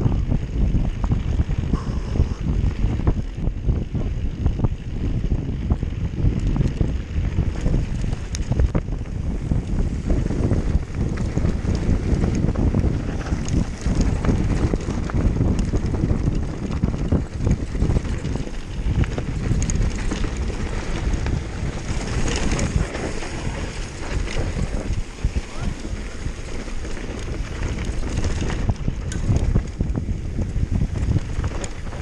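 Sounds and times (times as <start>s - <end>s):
mountain bike rattling over rough ground: 0.0s - 32.0s
wind buffeting microphone: 0.0s - 32.0s.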